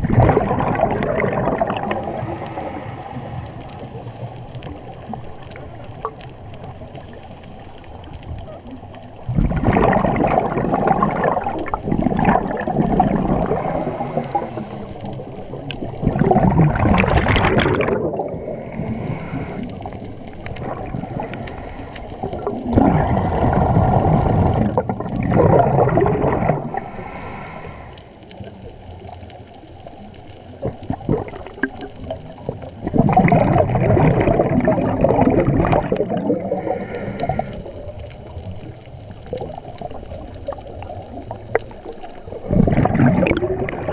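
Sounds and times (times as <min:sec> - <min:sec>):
exhaled bubbles rushing: 0:00.0 - 0:07.3, 0:08.0 - 0:43.9.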